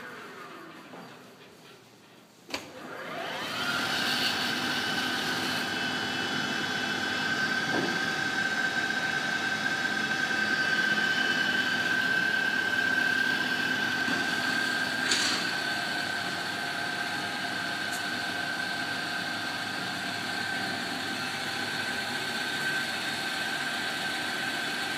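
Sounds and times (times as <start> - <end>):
lathe motor whine: 0.0 - 1.3, 2.7 - 24.9.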